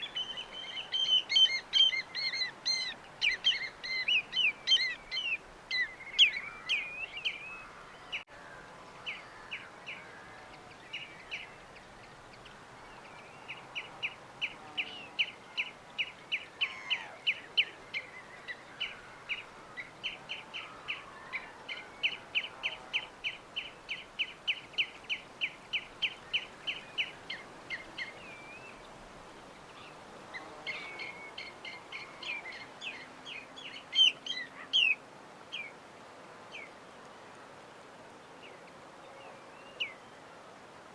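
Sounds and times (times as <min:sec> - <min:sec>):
small birds chirping: 0:00.0 - 0:08.3, 0:09.0 - 0:35.8
faint steady hiss: 0:00.0 - 0:40.9.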